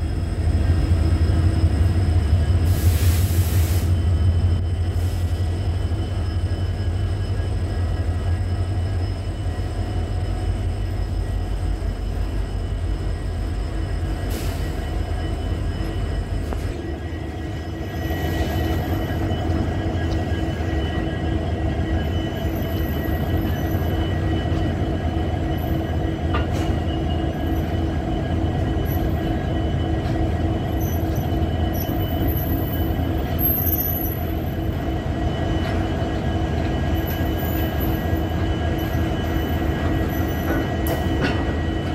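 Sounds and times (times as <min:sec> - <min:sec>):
high-pitched wheel squeals: 0:00.0 - 0:41.9
train wheels rumbling on rails: 0:00.0 - 0:41.9.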